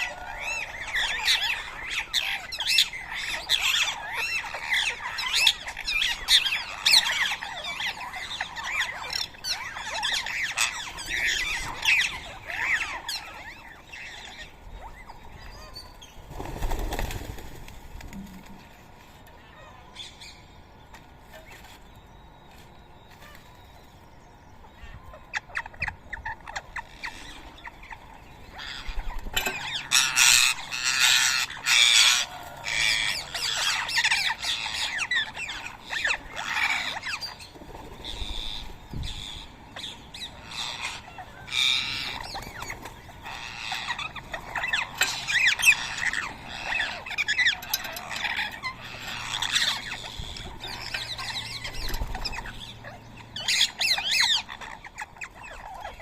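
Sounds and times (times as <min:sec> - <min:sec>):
parakeets squawking: 0:00.0 - 0:17.0, 0:24.7 - 0:56.0.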